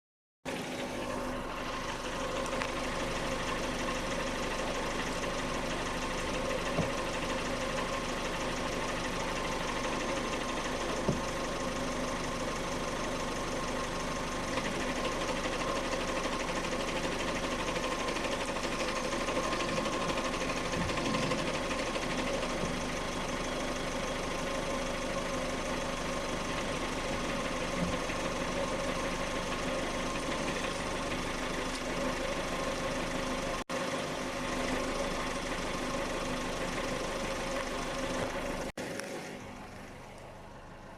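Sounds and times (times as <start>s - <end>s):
engine idling with rattle: 0.5s - 40.9s.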